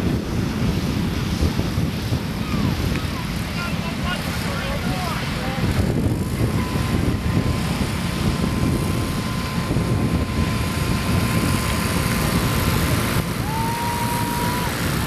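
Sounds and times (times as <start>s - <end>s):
high engine whine: 0.0s - 15.0s
lawn tractor engines droning: 0.0s - 15.0s.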